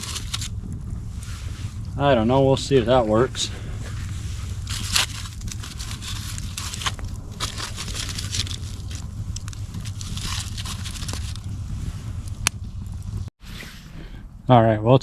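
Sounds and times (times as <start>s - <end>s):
scraping and rustling: 0.0s - 2.0s, 2.6s - 14.0s
campfire crackling and popping: 0.0s - 13.3s.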